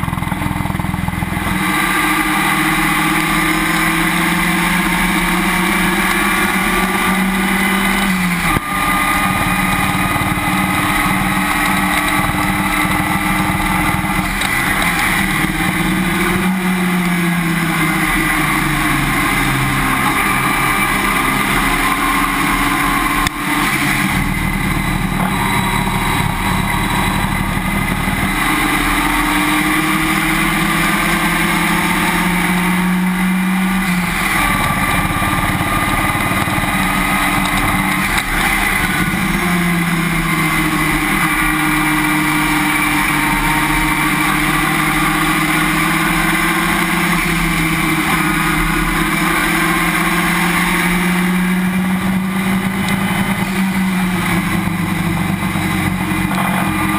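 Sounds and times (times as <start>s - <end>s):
race car engine revving: 0.0s - 56.9s
wind and road noise: 0.0s - 56.9s.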